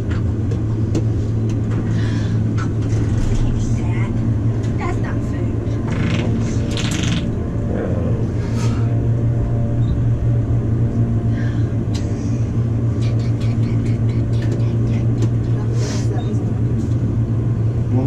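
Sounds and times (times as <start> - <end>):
elevator hum and rumble: 0.0 - 18.0.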